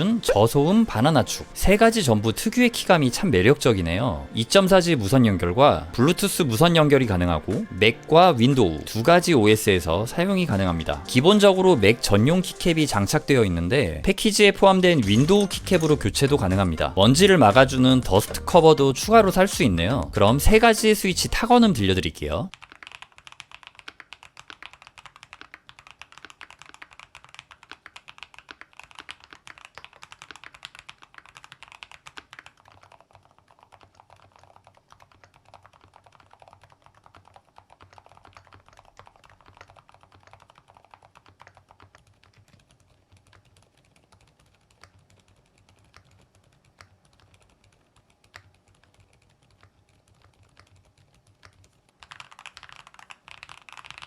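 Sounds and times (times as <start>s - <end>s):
typing on mechanical keyboard: 0.0s - 54.0s.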